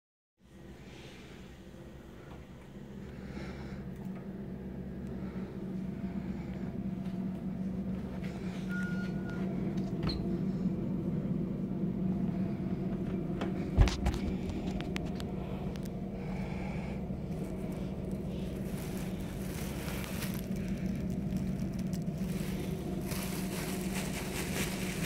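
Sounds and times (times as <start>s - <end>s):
low machine hum: 0.4s - 25.0s.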